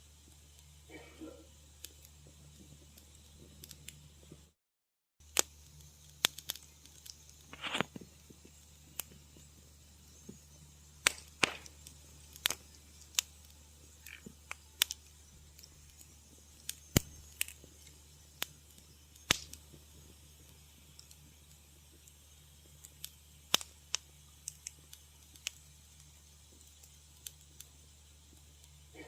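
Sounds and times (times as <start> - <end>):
wood fire crackling: 0.0 - 4.6, 5.2 - 29.0.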